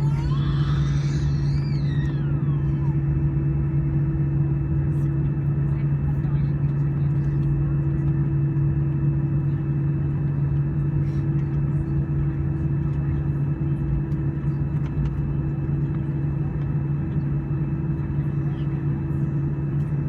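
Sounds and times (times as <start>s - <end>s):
jet engine cabin drone: 0.0s - 20.0s.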